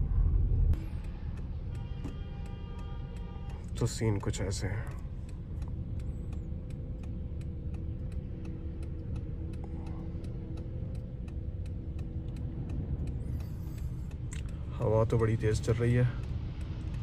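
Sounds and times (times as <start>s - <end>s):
car engine idling: 0.0s - 17.0s
turn-signal relay ticking: 0.7s - 17.0s.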